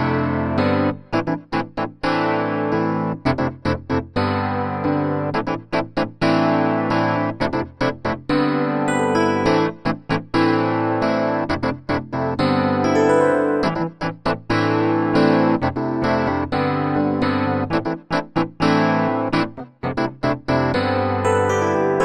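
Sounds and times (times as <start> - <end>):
electric piano chords and stabs: 0.0 - 22.0.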